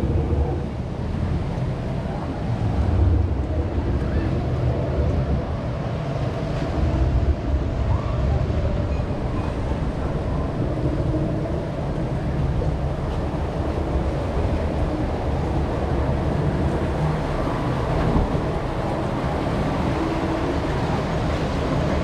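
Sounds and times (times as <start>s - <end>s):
water rushing and sloshing: 0.0s - 22.0s
wind rumbling on microphone: 0.0s - 22.0s.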